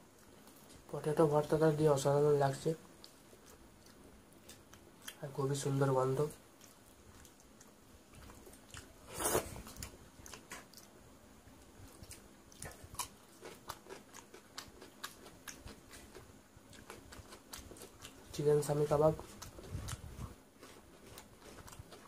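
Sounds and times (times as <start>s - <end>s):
man chewing food: 0.0s - 0.9s, 2.7s - 22.0s.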